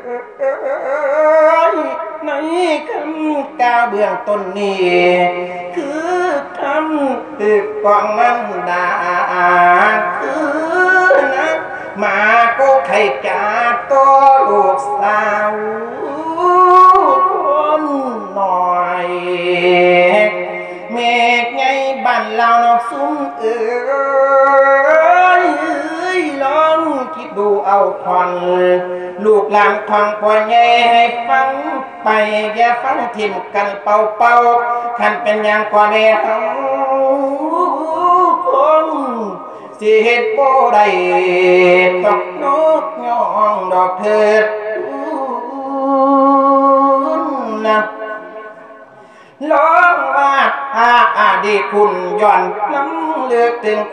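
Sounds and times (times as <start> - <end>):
man chanting melodically: 0.0 - 53.9
man singing into a microphone: 0.0 - 53.9.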